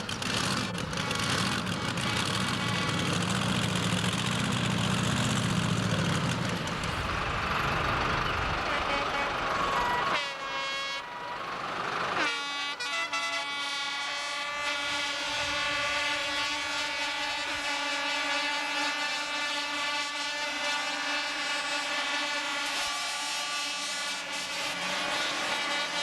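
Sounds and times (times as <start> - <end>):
rough noisy engine sound: 0.0 - 26.0
tractor engine high revs whine: 0.0 - 26.0.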